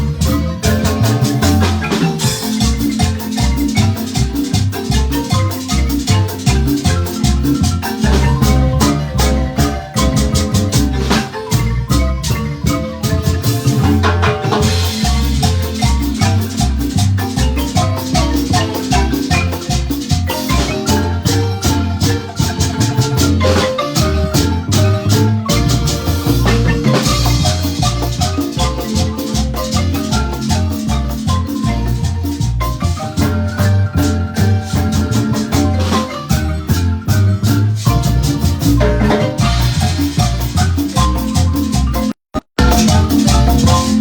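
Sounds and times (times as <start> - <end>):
marimba band playing: 0.0 - 44.0.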